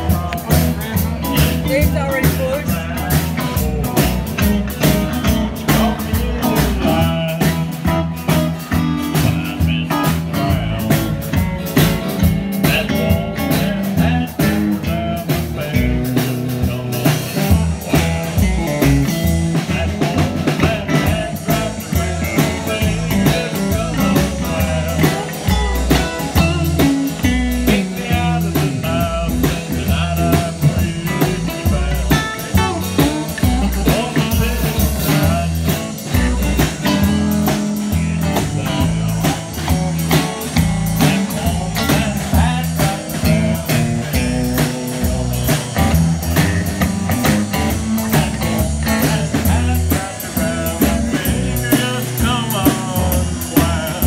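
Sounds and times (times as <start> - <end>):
bass line: 0.0 - 54.0
drum kit steady beat: 0.0 - 54.0
electric guitar: 0.0 - 54.0.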